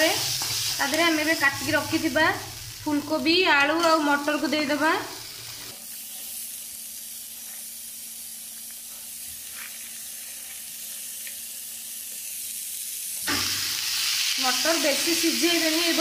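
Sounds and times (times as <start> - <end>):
paste sizzling in oil: 0.0 - 16.0.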